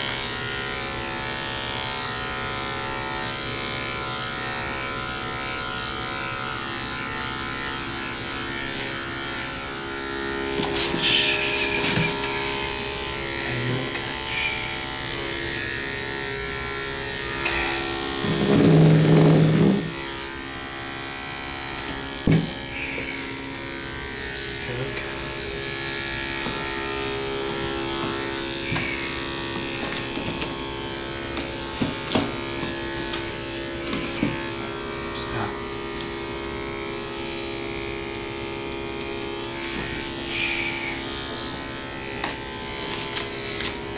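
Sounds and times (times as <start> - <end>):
electric clippers buzzing: 0.0 - 43.9.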